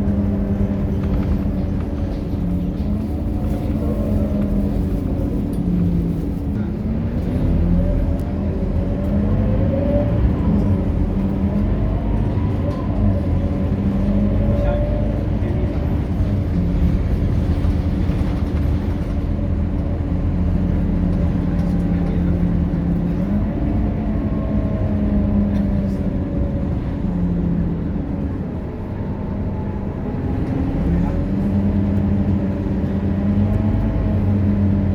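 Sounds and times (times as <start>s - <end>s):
bus engine rumbling: 0.0s - 34.9s.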